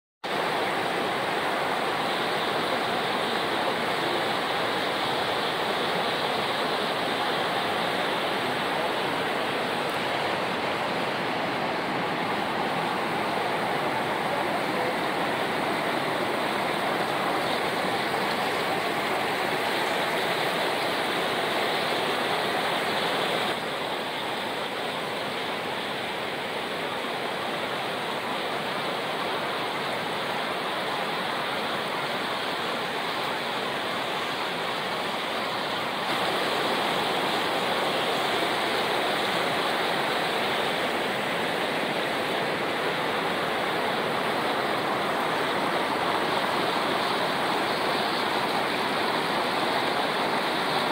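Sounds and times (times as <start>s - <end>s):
water rushing over rocks: 0.2s - 50.9s.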